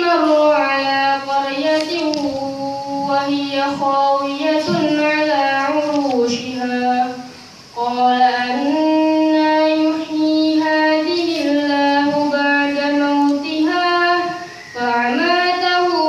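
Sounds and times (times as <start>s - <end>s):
boy chanting melodically: 0.0s - 16.0s.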